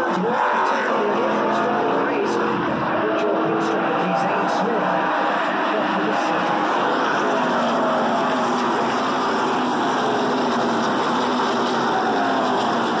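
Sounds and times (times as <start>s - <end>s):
race truck engines at speed: 0.0s - 13.0s.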